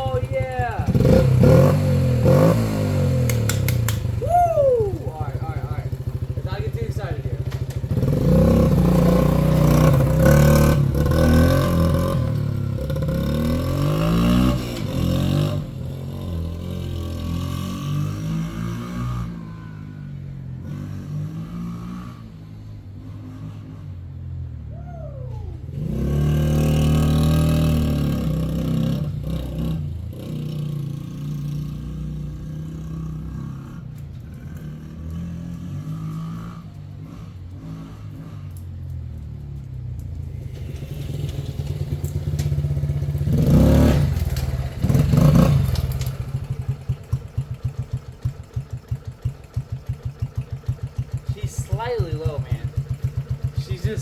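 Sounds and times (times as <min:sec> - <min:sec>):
quad bike engine revving and idling: 0:00.0 - 0:54.0.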